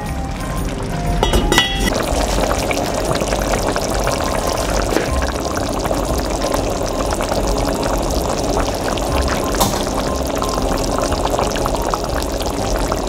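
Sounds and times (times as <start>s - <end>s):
sauce bubbling and popping: 1.2s - 13.0s.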